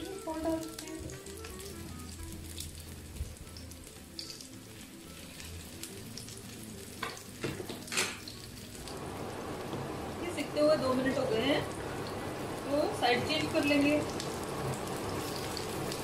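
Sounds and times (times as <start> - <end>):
patties sizzling in pan: 0.0 - 16.0.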